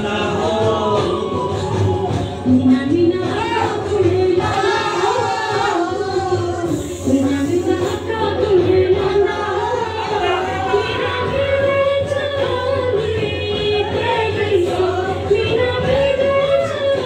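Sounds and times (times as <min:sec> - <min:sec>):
dance song with singing: 0:00.0 - 0:17.0.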